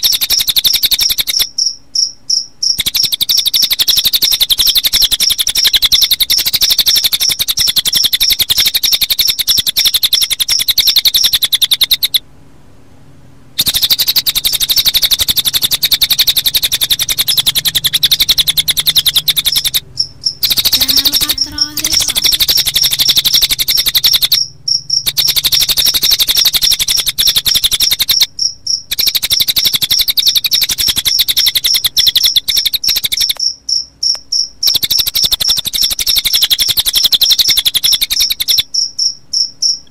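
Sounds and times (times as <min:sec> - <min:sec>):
crickets chirping: 0:00.0 - 0:12.2, 0:13.6 - 0:39.9
rapid high bird trill: 0:00.0 - 0:12.2, 0:13.6 - 0:39.8.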